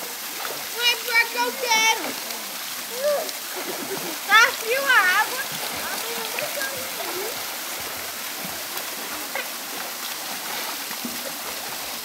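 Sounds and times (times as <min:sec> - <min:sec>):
river water and waterfall rushing: 0:00.0 - 0:12.0
children splashing: 0:00.4 - 0:11.5.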